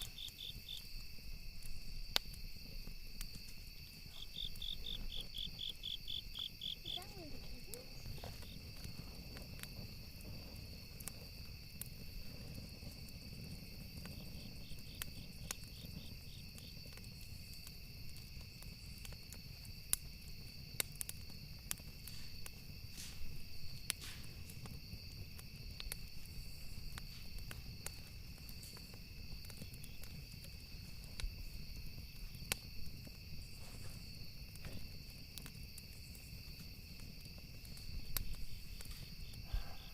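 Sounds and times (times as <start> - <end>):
campfire wood crackling and popping: 0.0 - 39.9
crickets chirping: 0.0 - 39.9
low rumble of fire: 0.0 - 39.9.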